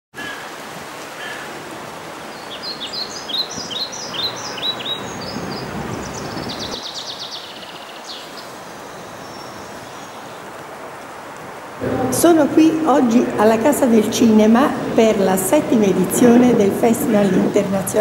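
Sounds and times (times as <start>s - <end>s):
outdoor background hiss: 0.2s - 18.0s
songbirds chirping: 1.3s - 11.0s, 11.6s - 18.0s.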